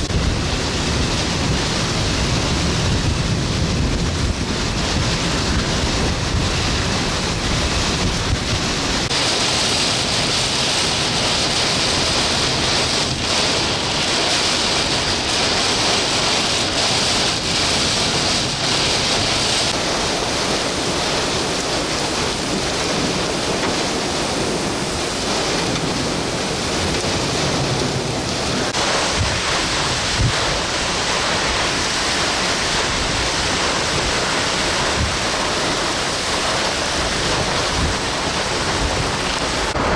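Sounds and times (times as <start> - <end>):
heavy rain: 0.0 - 39.9
strong wind gusts: 0.0 - 39.9
wind buffeting microphone: 0.0 - 39.9.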